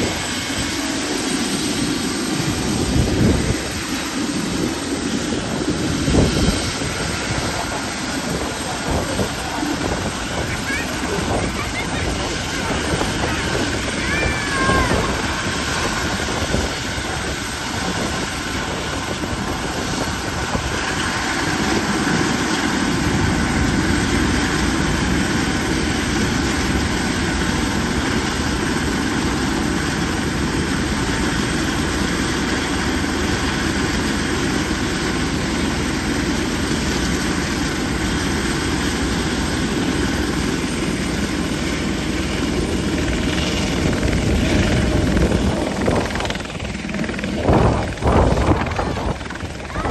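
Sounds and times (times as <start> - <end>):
helicopter running on ground: 0.0 - 49.9.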